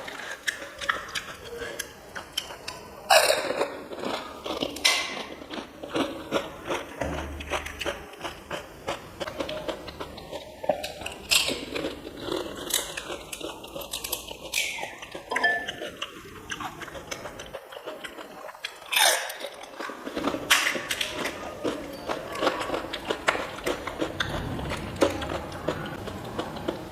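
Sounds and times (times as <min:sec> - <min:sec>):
crunching crisp snacks: 0:00.0 - 0:26.9
wet chewing: 0:00.0 - 0:26.9.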